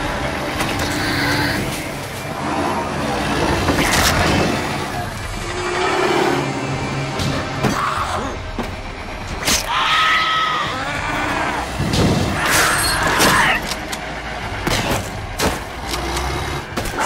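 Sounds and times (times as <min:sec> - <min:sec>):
loader engine running: 0:00.0 - 0:17.0.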